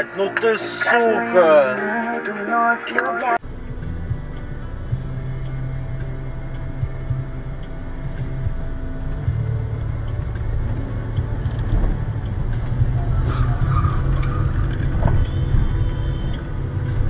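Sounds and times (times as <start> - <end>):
car engine and road drone: 0.0 - 17.0.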